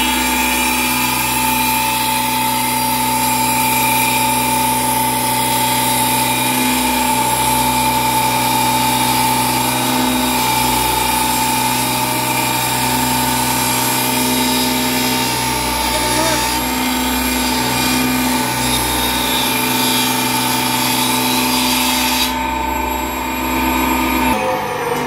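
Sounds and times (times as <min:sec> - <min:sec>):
power tool motor whining: 0:00.0 - 0:25.0.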